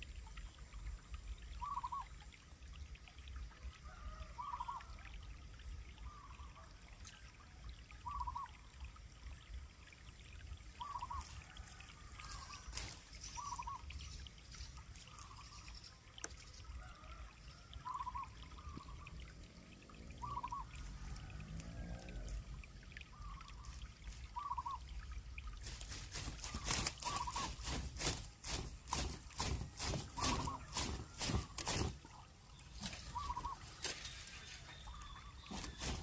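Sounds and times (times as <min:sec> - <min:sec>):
trickling water-like hiss: 0:00.0 - 0:36.0.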